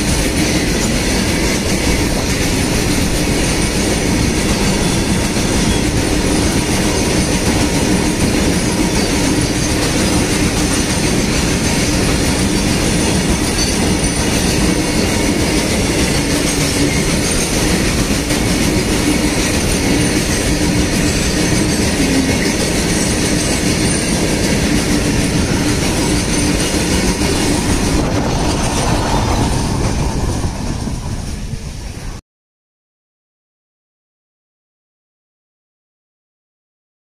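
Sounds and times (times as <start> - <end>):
freight train wheels clattering: 0.0 - 32.2.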